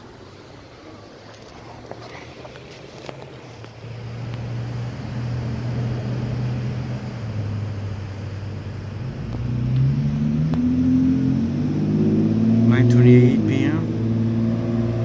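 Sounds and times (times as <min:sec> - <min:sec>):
vehicle engine running: 0:01.4 - 0:15.0.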